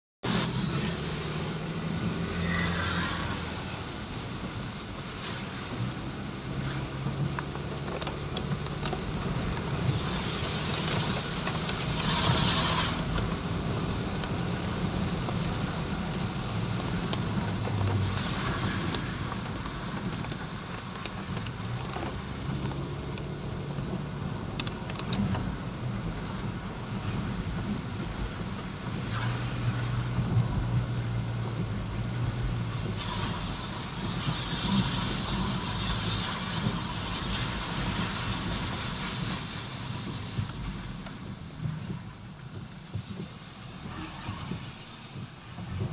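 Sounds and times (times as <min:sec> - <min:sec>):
traffic engine hum and road hiss: 0:00.2 - 0:45.9.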